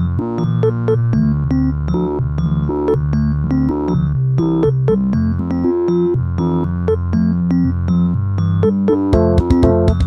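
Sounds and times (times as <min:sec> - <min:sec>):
electric piano music: 0:00.0 - 0:10.0.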